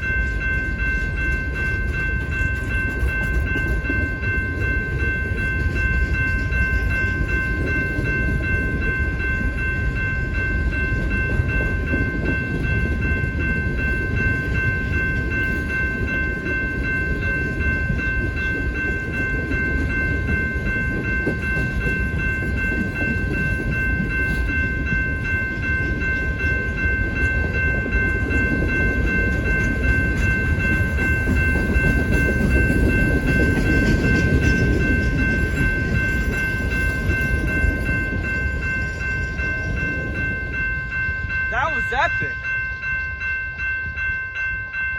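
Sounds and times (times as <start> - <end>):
high-pitched ringing tone: 0.0 - 44.9
train rumbling past: 0.0 - 44.9.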